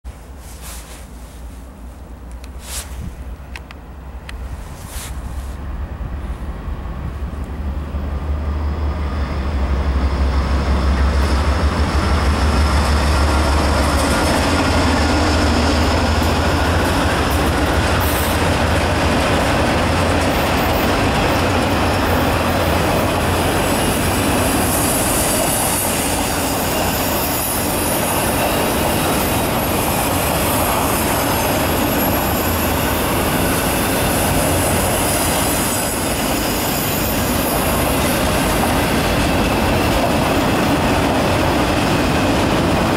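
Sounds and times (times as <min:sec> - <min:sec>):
freight cars wheels on rails: 0:00.1 - 0:42.9.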